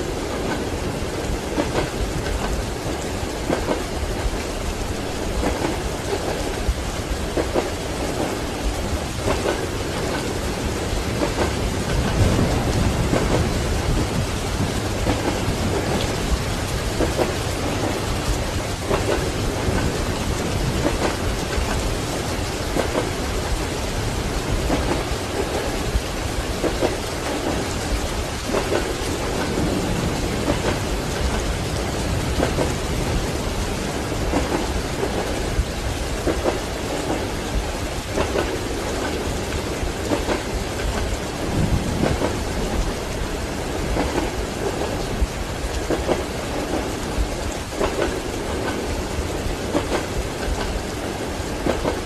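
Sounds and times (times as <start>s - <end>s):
heavy rain patter: 0.0s - 52.0s
low rumble of thunder: 0.0s - 52.0s.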